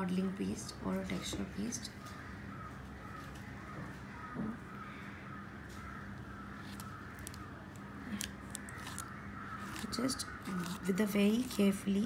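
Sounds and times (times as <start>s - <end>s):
steady low hum: 0.0s - 12.0s
faint bird calls: 1.2s - 11.6s.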